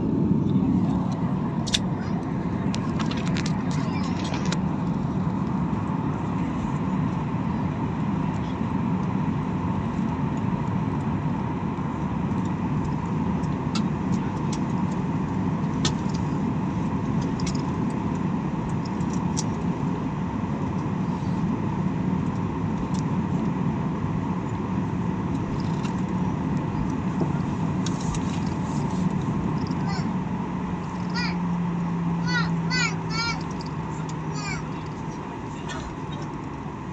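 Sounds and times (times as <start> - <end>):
airliner engine and air noise: 0.0 - 36.9.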